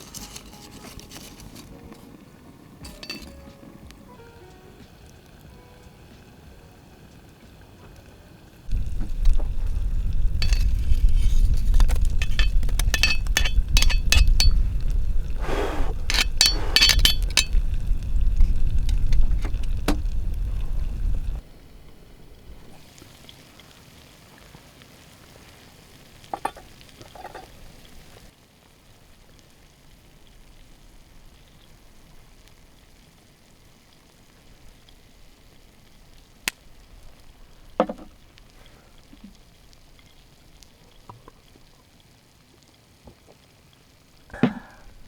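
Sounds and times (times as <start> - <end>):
food sizzling in a pan: 0.0 - 45.0.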